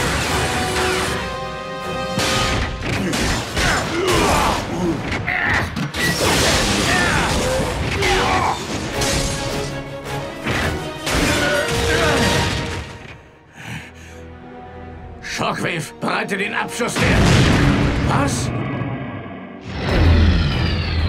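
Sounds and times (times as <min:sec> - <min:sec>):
dramatic action score music: 0:00.0 - 0:21.0.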